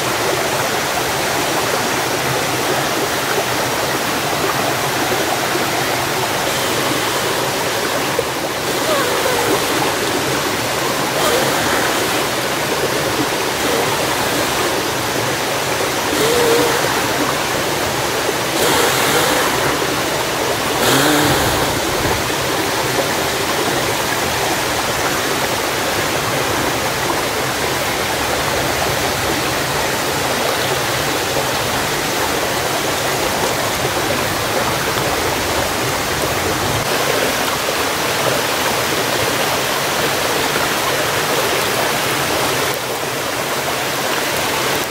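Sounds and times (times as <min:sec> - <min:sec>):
stream rushing: 0:00.0 - 0:44.9.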